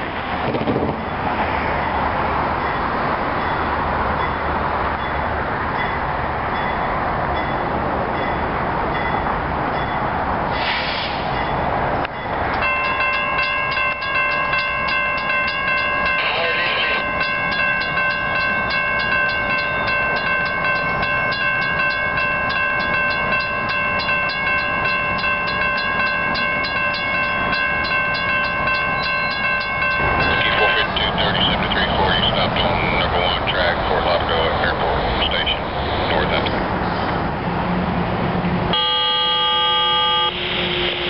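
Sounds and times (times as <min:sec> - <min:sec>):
railroad crossing bell ringing: 0:02.5 - 0:10.3, 0:11.3 - 0:36.7, 0:38.7 - 0:40.8.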